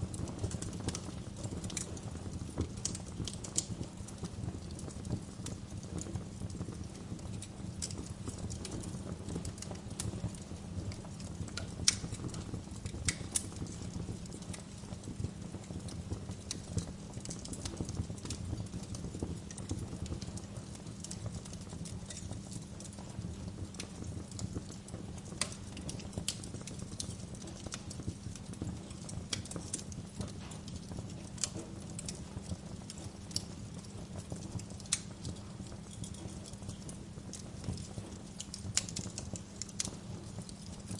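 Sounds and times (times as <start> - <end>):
sharp pops of fire: 0.0 - 40.9
wood fire crackling: 0.0 - 40.9.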